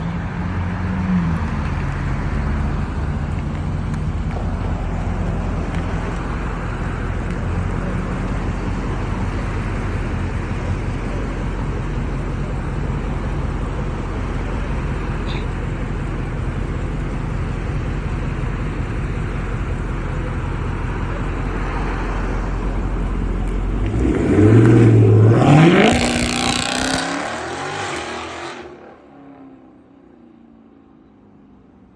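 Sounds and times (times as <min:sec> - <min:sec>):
car engine deep drone and revving: 0:00.0 - 0:31.9.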